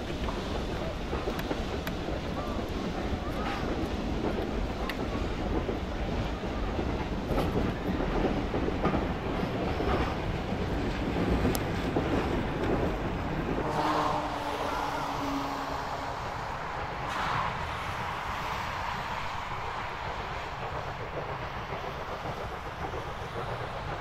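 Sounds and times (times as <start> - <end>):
distant train low hum: 0.0 - 24.0
train carriages clattering over rails: 0.0 - 24.0.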